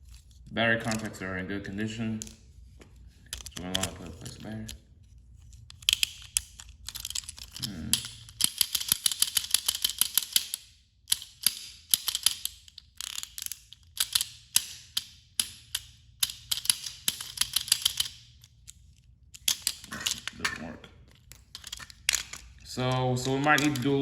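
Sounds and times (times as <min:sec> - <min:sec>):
plastic toy clicking and clattering: 0:00.8 - 0:01.2, 0:03.2 - 0:04.8, 0:05.4 - 0:24.0.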